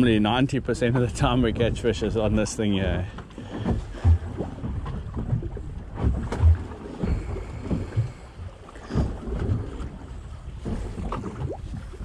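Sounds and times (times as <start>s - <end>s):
waves slapping boat hull: 0.0s - 12.0s
wind buffeting microphone: 0.0s - 12.0s.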